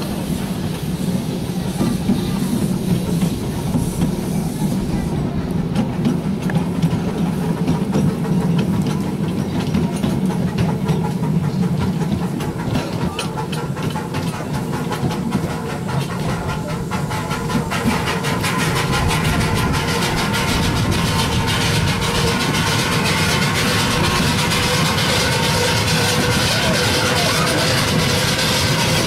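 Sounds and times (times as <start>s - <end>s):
miniature train rumbling: 0.0s - 29.0s
rapid clicking of wheels on track: 0.0s - 29.0s.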